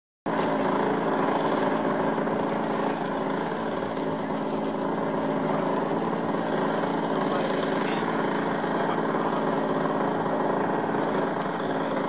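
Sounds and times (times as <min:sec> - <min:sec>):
model plane engine idling: 0:00.3 - 0:12.0.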